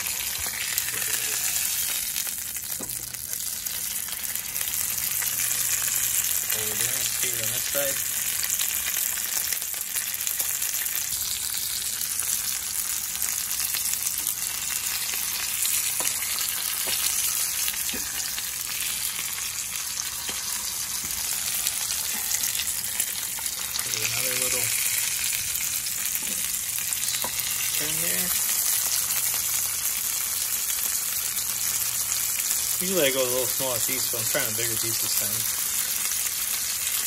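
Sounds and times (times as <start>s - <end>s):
fish searing in oil: 0.0s - 37.0s.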